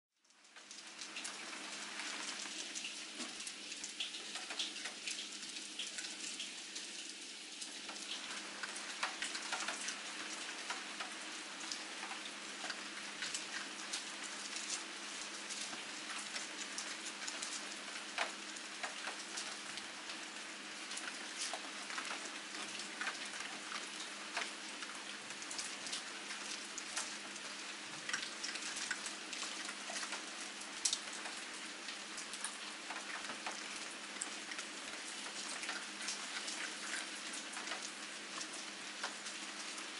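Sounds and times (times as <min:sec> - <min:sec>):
steady rain falling: 0:00.2 - 0:39.9.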